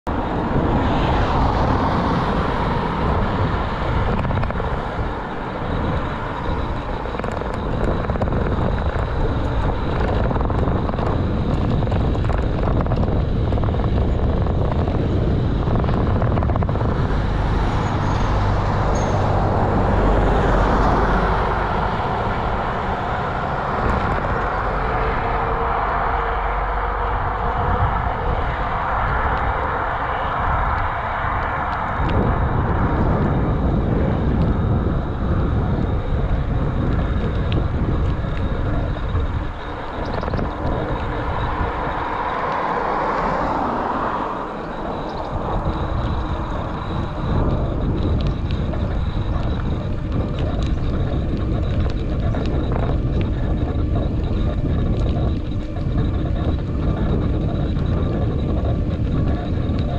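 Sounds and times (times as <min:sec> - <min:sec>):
tyre and road rumble: 0:00.0 - 0:59.9
wind rushing over camera: 0:00.0 - 0:59.9.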